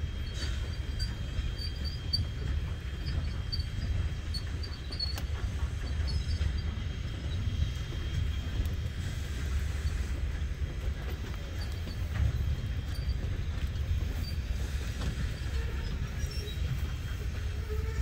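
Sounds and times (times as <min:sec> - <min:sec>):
train rumbling by: 0:00.0 - 0:18.0.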